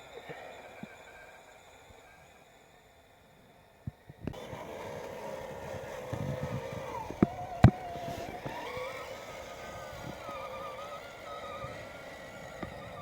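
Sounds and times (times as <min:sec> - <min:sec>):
electric motor and gearbox whining: 0:00.0 - 0:13.0.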